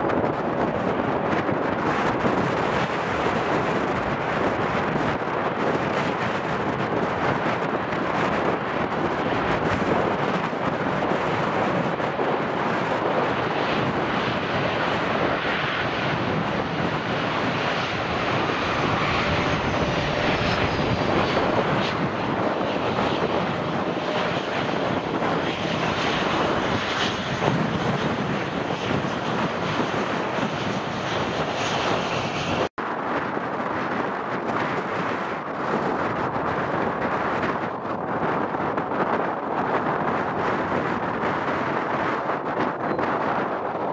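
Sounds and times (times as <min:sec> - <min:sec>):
jet engine noise: 0:00.0 - 0:43.9.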